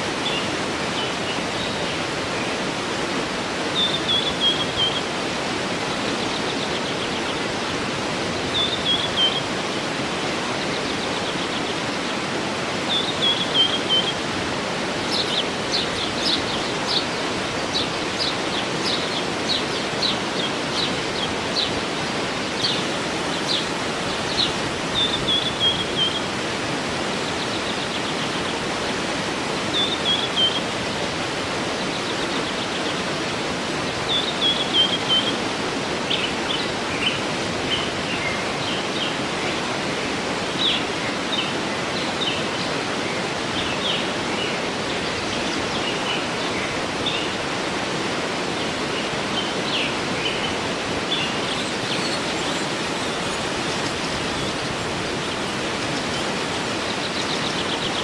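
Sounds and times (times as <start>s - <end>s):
birds singing: 0.0s - 58.0s
waterfall rushing: 0.0s - 58.0s.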